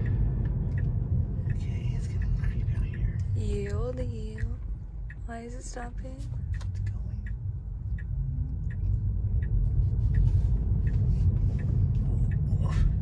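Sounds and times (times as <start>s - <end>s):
faint regular ticking: 0.0s - 13.0s
road and tyre rumble: 0.0s - 13.0s.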